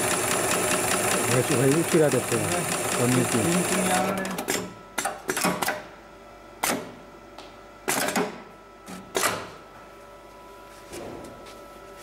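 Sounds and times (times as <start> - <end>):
faint machine hum: 0.0 - 12.0.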